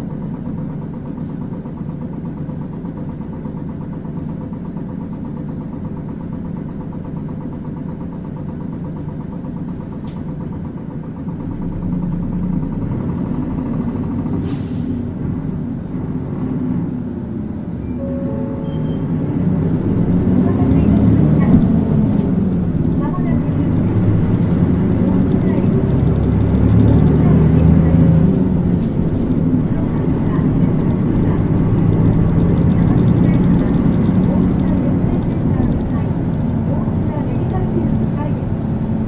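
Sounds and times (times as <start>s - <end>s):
bus diesel engine: 0.0s - 39.0s.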